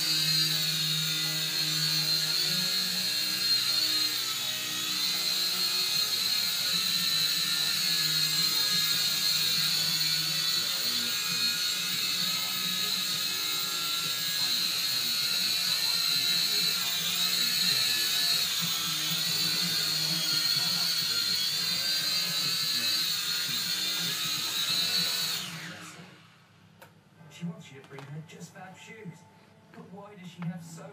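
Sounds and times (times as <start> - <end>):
toy drone motors whining: 0.0 - 26.2.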